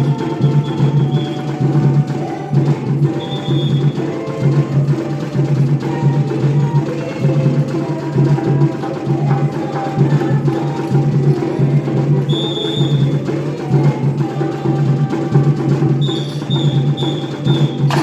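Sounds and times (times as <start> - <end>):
percussion steady beat: 0.0 - 18.0.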